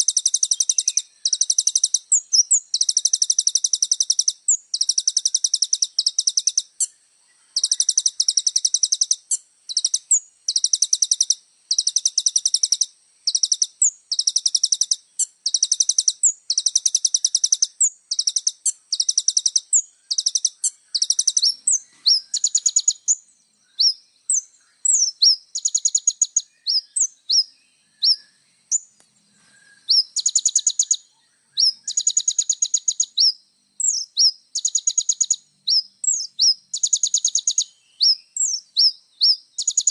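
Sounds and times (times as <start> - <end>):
bird buzzy trills: 0.0 - 39.9
bird sharp rising chirps: 0.0 - 39.9.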